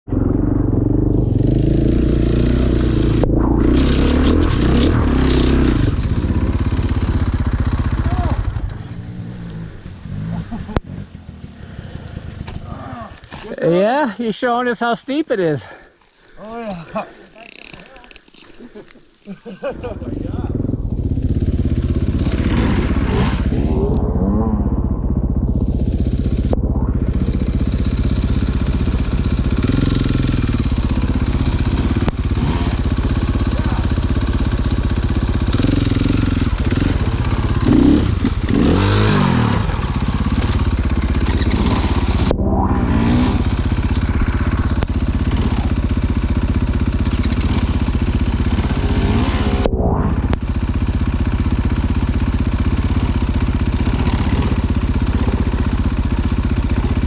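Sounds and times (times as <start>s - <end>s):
motorcycle engine revving: 0.0s - 13.6s, 19.6s - 57.0s.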